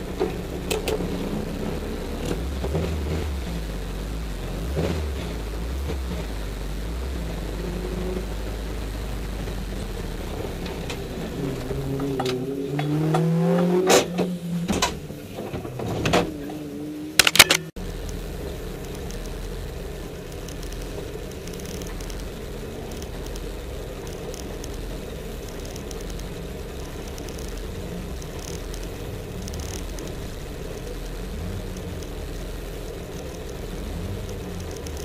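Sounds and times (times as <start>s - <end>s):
car engine idling: 0.0s - 17.2s, 17.8s - 35.0s.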